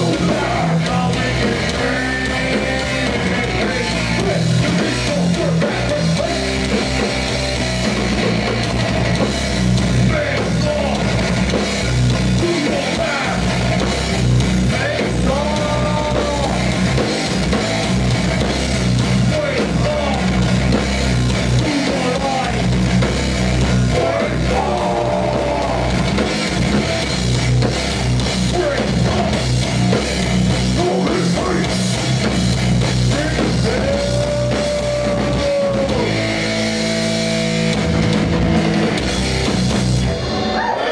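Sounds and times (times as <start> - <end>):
bass guitar: 0.0 - 40.9
distorted electric guitars: 0.0 - 40.9
pounding drum kit: 0.0 - 40.9.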